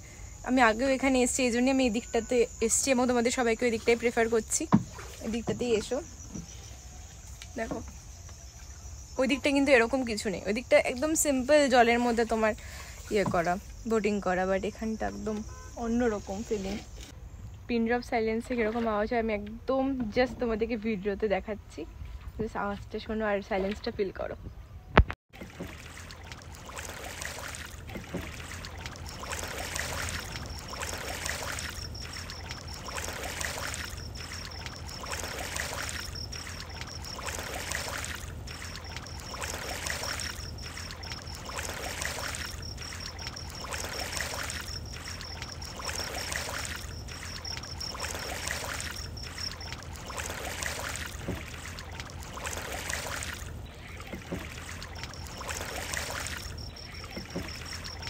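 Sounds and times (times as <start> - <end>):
water swishing with oar strokes: 1.0 - 17.2, 18.4 - 20.2, 21.9 - 24.0, 25.0 - 58.0.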